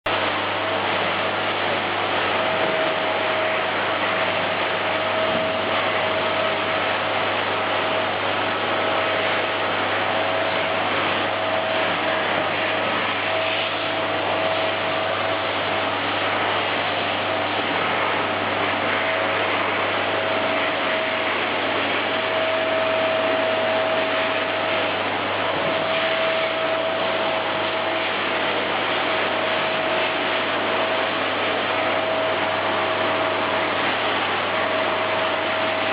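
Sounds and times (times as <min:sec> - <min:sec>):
vacuum cleaner running: 0:00.1 - 0:35.9.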